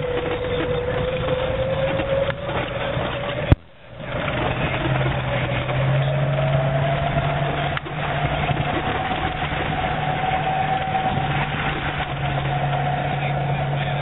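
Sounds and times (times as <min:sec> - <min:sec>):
car engine running: 0:00.0 - 0:14.0
rising whine: 0:00.0 - 0:14.0.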